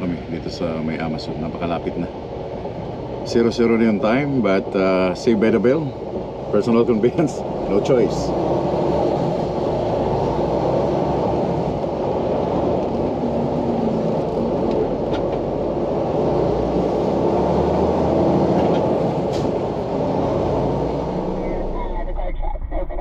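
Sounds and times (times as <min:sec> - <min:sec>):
truck engine rumble: 0:00.0 - 0:23.0.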